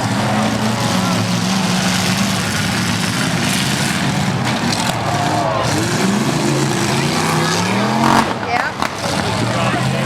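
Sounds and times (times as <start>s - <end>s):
pickup truck engines revving: 0.0s - 10.0s.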